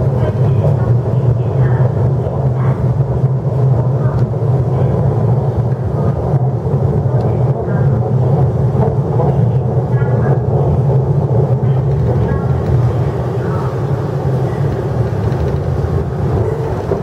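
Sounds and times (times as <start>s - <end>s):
faint voices: 0.0s - 17.0s
train interior rumble and hum: 0.0s - 17.0s.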